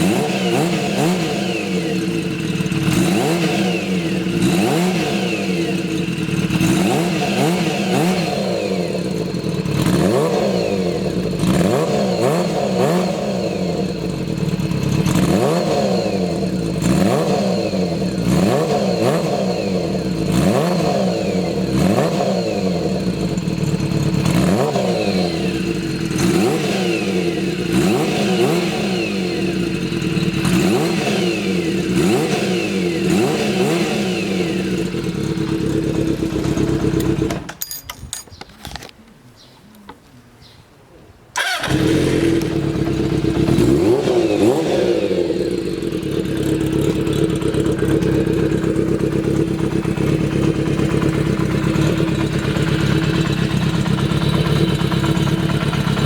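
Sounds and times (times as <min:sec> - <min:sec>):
motorcycle engine idling and revving: 0:00.0 - 0:38.8, 0:41.4 - 0:56.0.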